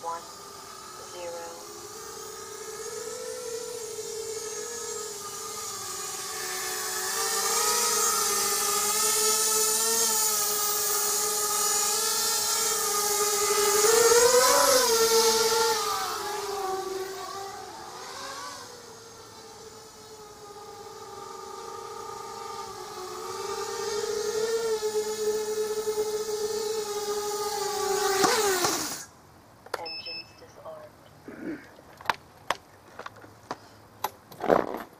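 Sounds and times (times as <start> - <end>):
quadcopter motors whining: 0.0 - 29.1.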